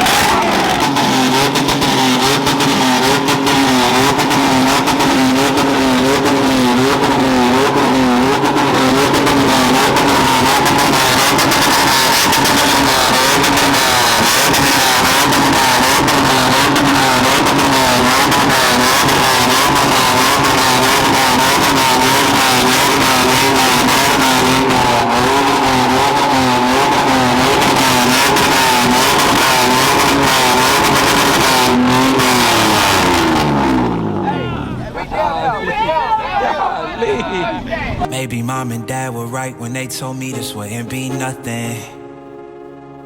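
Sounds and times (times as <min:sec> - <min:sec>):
engine revving through loud exhaust: 0:00.0 - 0:34.8.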